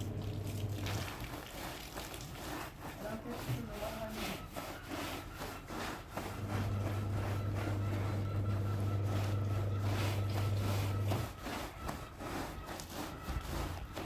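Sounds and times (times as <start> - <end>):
rubbing strokes: 0.0 - 14.0.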